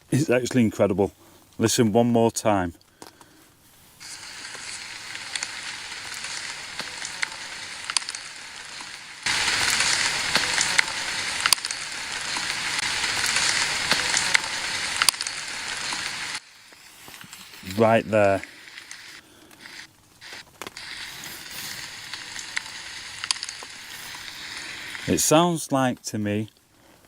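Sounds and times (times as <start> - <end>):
steady hiss: 0.0 - 27.0
crackling clicks: 2.8 - 27.0.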